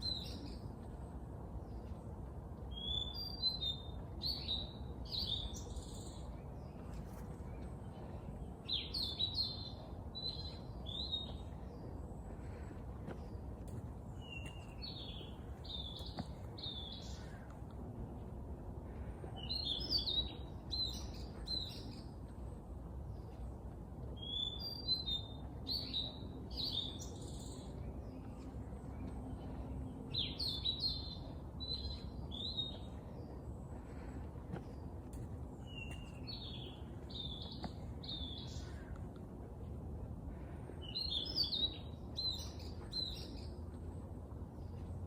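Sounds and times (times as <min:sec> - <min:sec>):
low outdoor hum: 0:00.0 - 0:45.0
songbirds chirping: 0:00.0 - 0:45.0.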